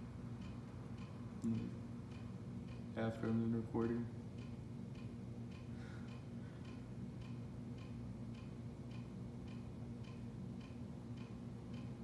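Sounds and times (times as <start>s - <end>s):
steady low hum: 0.0s - 12.0s
regular ticking: 0.1s - 12.0s.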